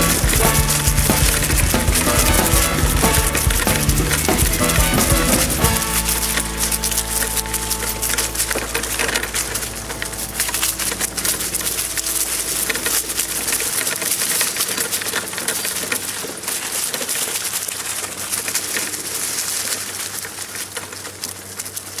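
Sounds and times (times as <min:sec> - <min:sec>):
leaves crackling under wheels and paws: 0:00.0 - 0:22.0.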